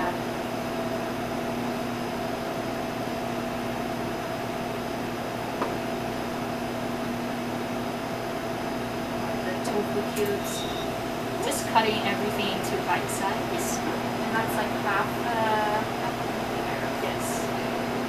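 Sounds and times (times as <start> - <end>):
kitchen machinery humming: 0.0 - 18.0.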